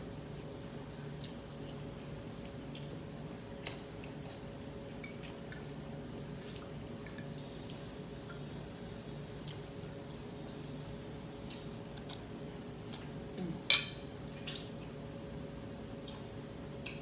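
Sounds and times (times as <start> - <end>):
steady low hum: 0.0 - 17.0
wet eating noises: 0.4 - 10.4, 11.3 - 15.2, 15.9 - 17.0.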